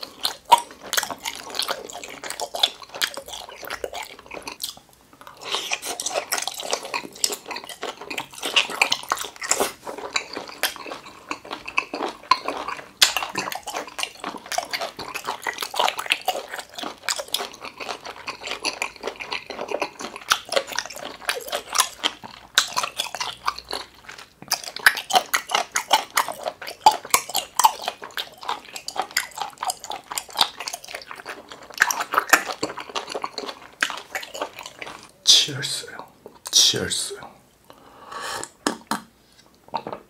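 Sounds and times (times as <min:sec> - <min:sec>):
wet chewing: 0:00.0 - 0:36.6.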